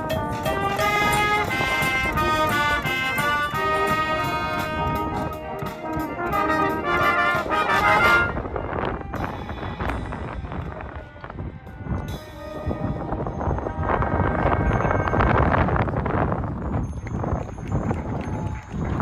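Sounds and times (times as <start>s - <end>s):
wind band playing: 0.0s - 16.5s.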